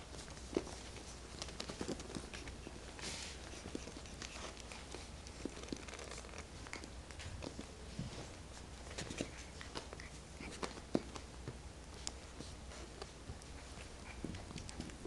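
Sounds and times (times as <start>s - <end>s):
puppies scrabbling in a crate: 0.0s - 15.0s.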